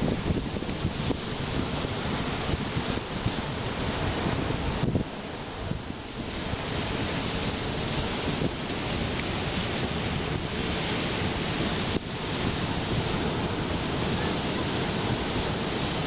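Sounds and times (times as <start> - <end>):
surf breaking on rocks: 0.0 - 16.0
wind rumbling on microphone: 0.0 - 16.0.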